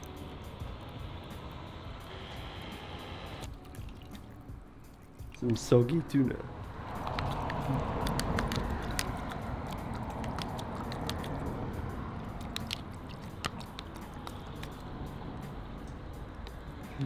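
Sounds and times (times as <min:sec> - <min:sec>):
steady background rush: 0:00.0 - 0:17.0.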